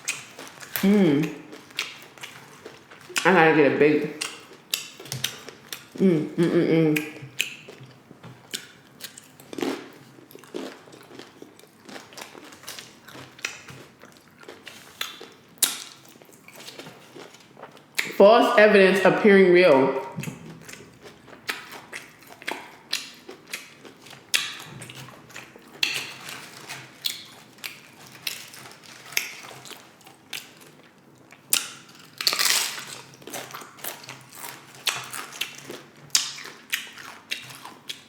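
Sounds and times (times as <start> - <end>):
chewing crunchy chips: 0.0 - 3.3, 4.1 - 6.0, 7.0 - 18.1, 20.1 - 38.0.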